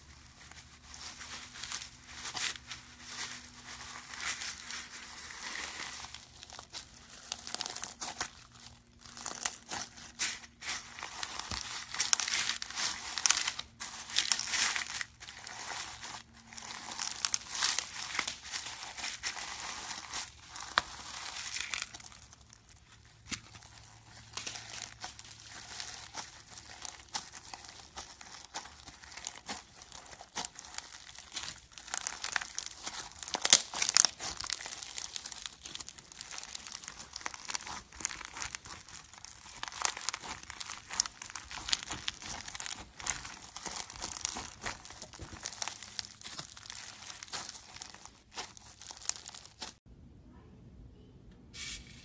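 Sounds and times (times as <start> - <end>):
foam beads crackling in slime: 0.0 - 49.8.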